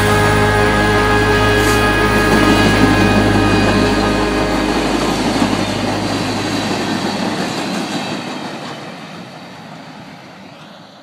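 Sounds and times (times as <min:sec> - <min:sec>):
freight train rolling on rails: 0:00.0 - 0:11.0.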